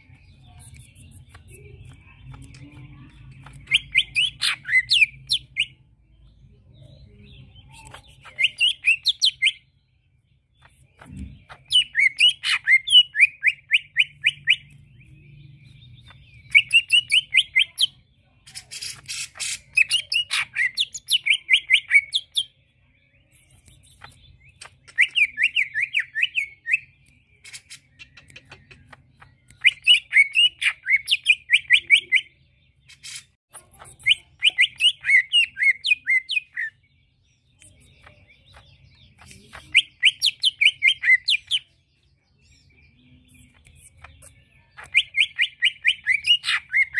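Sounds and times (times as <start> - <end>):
bird singing fast chirps: 0.0 - 9.8, 10.4 - 46.9.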